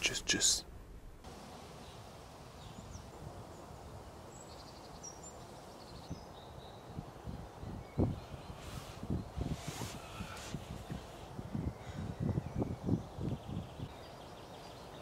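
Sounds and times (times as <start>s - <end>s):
low background hiss: 0.0s - 15.0s
soft bird chirps: 1.8s - 15.0s.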